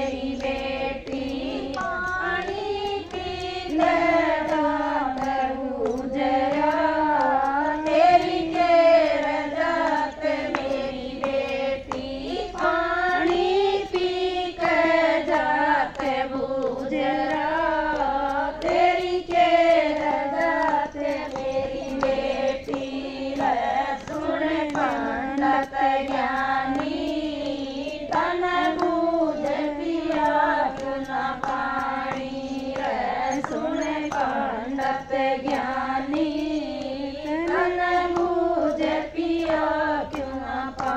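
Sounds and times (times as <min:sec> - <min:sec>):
women singing together: 0:00.0 - 0:40.9.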